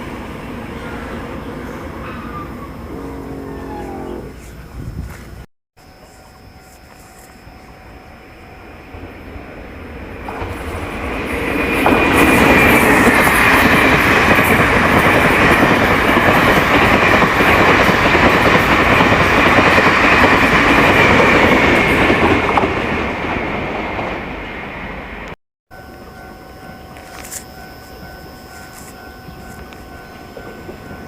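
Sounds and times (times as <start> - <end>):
train rumbling past: 0.0 - 31.0.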